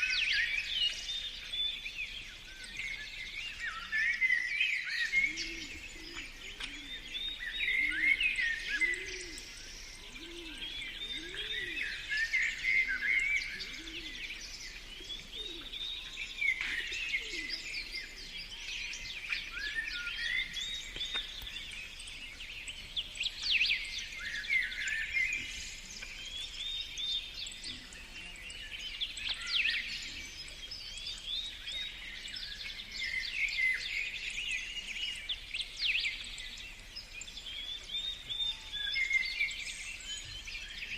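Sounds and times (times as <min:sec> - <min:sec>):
birds singing in chorus: 0:00.0 - 0:40.9.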